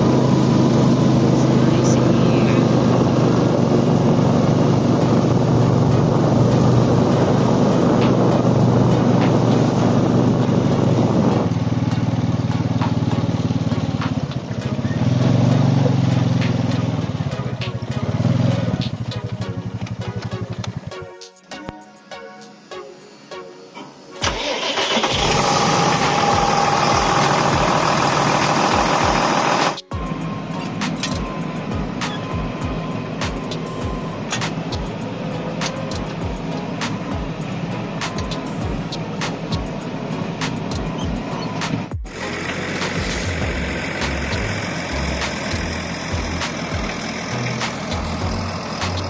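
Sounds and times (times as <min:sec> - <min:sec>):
vehicle engine running: 0:00.0 - 0:21.1, 0:23.9 - 0:49.0
background music: 0:00.0 - 0:49.0.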